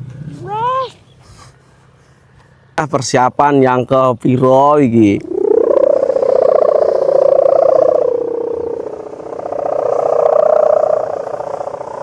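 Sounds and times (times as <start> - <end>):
kite hummer droning: 0.0 - 2.7, 4.9 - 12.0.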